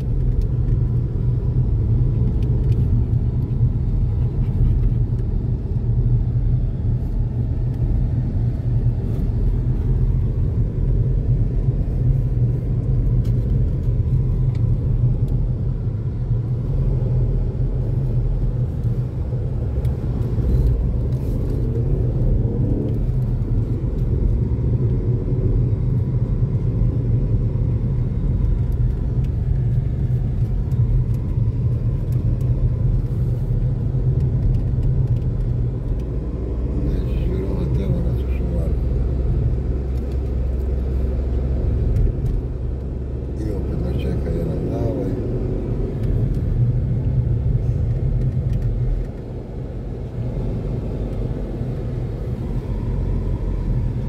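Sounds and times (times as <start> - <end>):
car engine rumble: 0.0 - 54.0
tyres on road: 0.0 - 54.0.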